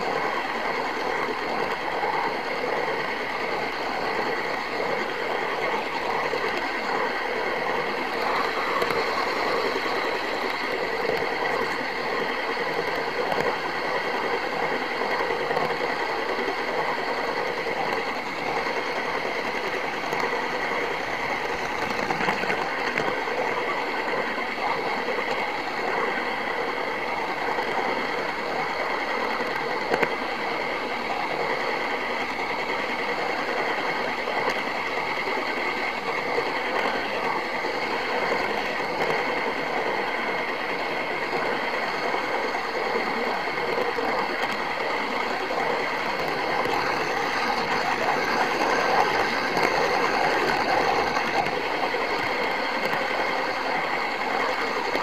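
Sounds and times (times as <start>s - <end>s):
model train motor whirring: 0.0s - 55.0s.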